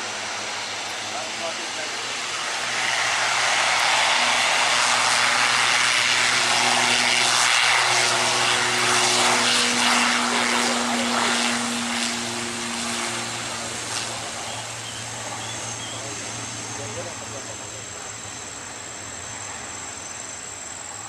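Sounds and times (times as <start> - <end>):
jet airliner engines passing: 0.0 - 21.0.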